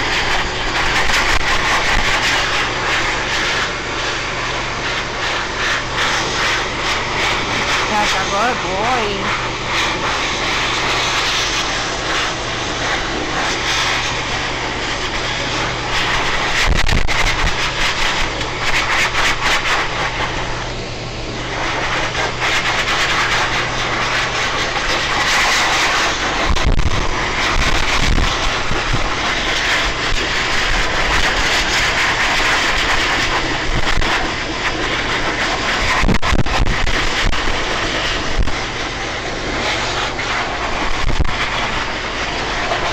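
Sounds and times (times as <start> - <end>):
dog dryer blowing air: 0.0 - 42.9.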